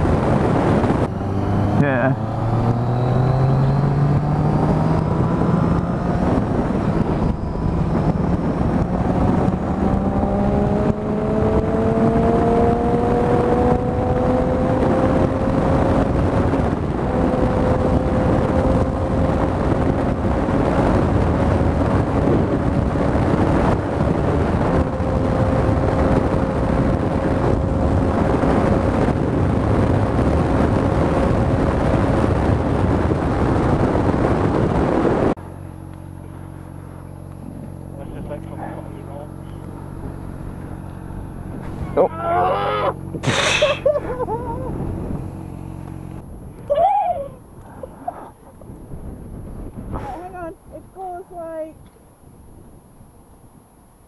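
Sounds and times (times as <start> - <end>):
motorcycle engine accelerating: 0.0 - 47.0
wind and road rush: 0.0 - 54.0.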